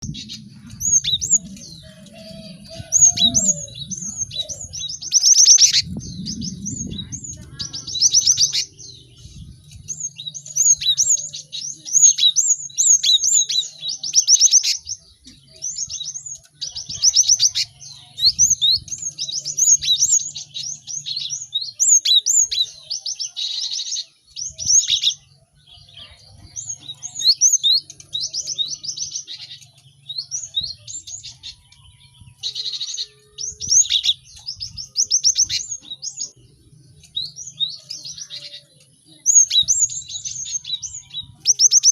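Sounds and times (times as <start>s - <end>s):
tits chirping: 0.0s - 41.9s.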